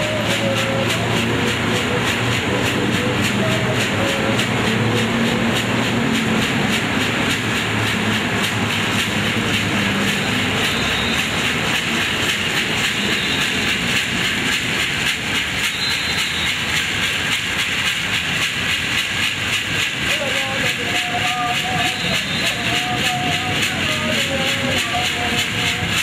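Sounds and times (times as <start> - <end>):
gourd rattle shaken rhythmically: 0.0 - 26.0.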